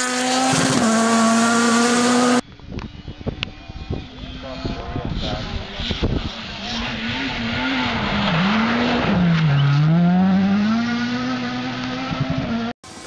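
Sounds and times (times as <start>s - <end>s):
rally car engine at high revs: 0.0s - 2.4s, 3.4s - 13.0s.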